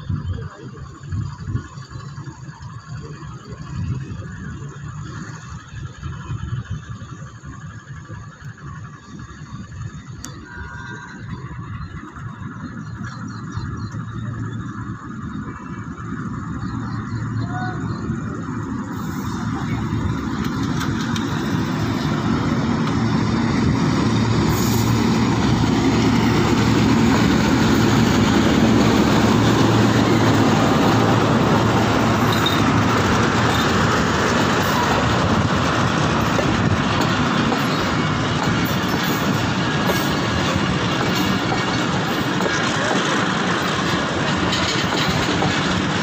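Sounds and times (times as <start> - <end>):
locomotive engine working: 0.0 - 46.0
train wheels on track: 0.0 - 46.0.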